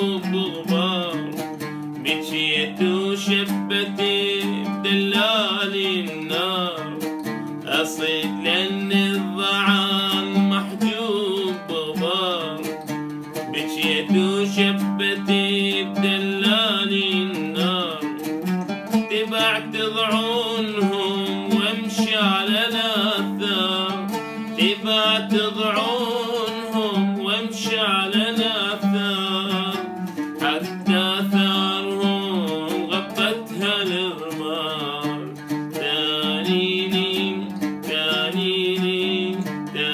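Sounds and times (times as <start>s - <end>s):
man singing: 0.0s - 39.9s
plucked oud: 0.0s - 39.9s.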